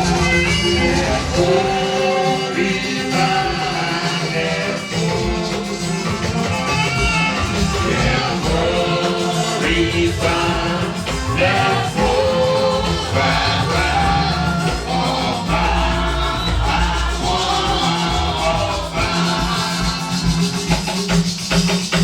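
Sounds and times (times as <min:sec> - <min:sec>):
group singing a hymn: 0:00.0 - 0:21.4.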